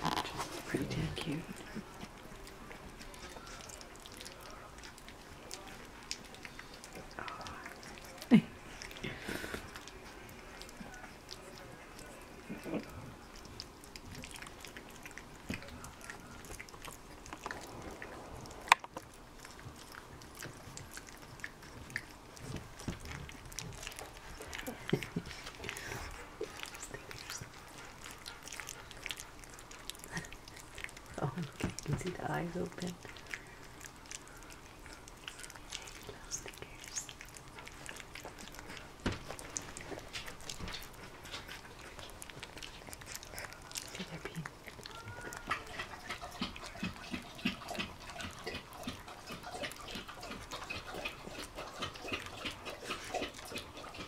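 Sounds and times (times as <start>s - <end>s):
puppies mouthing and nuzzling: 0.0s - 54.0s.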